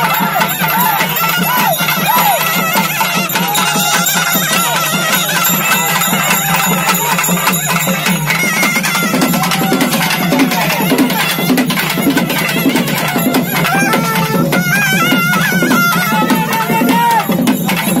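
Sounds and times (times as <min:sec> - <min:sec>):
bending pitched melody: 0:00.0 - 0:18.0
fast dense drumming: 0:00.0 - 0:18.0.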